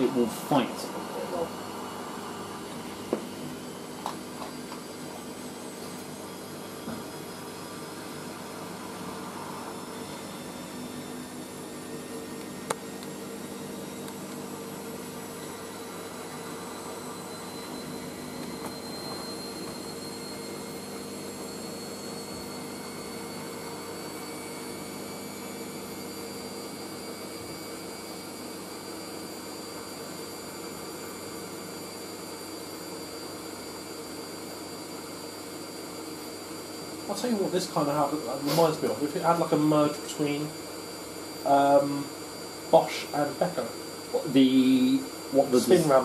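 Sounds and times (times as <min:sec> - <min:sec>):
high motor whine: 0:00.0 - 0:46.0
washing machine spinning: 0:00.0 - 0:46.0.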